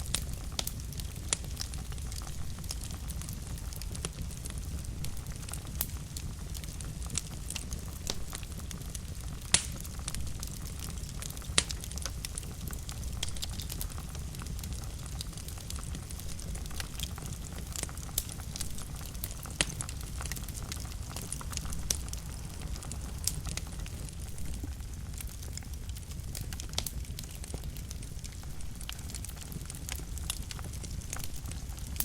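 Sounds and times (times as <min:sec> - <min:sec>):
fire crackling and popping: 0:00.0 - 0:32.0
fire rumbling: 0:00.0 - 0:32.0.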